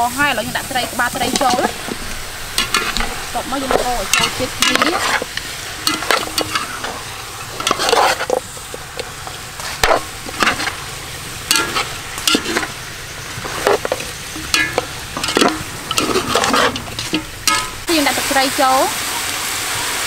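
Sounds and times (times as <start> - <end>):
steady hiss: 0.0 - 20.0
metal ladle scraping a pot: 0.6 - 17.9.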